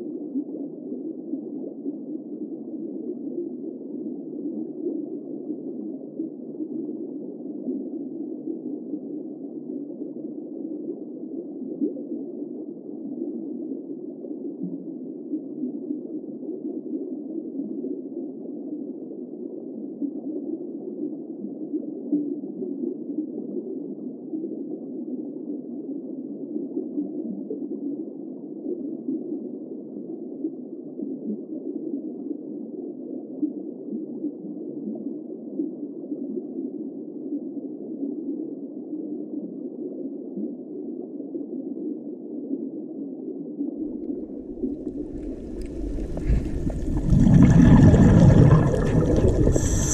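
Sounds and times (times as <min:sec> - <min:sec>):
underwater rumble with bubbling: 0:00.0 - 0:35.0, 0:43.6 - 0:49.9.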